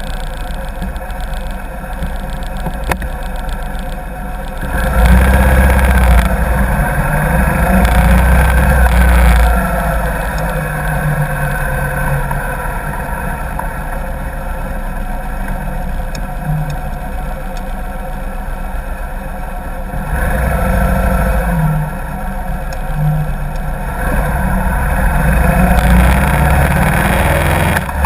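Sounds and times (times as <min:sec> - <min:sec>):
motorcycle engine running: 0:00.0 - 0:28.0
road and wind noise: 0:00.0 - 0:28.0.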